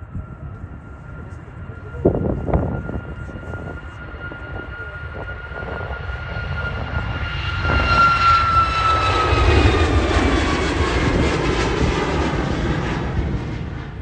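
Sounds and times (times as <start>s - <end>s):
jet airliner passing: 0.0s - 14.0s
wind buffeting microphone: 0.0s - 14.0s.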